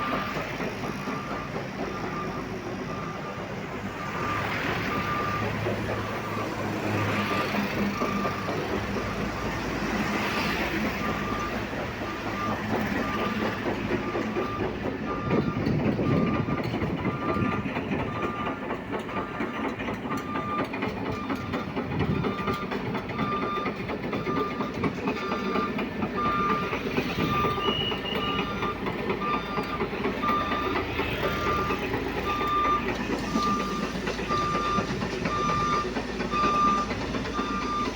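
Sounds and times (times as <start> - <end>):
engine noise: 0.0 - 37.9
reversing alarm beeping: 0.0 - 37.9
road traffic noise: 0.0 - 37.9.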